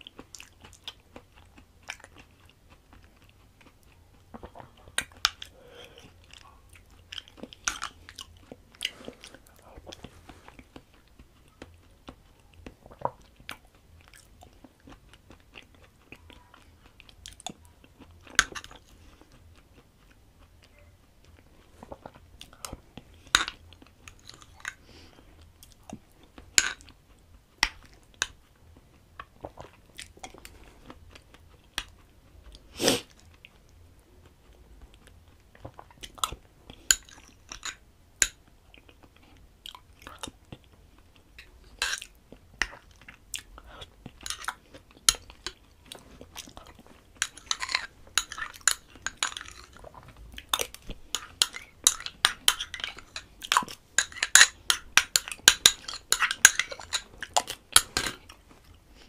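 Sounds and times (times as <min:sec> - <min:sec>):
wet chewing and lip smacks: 0:00.0 - 0:59.0.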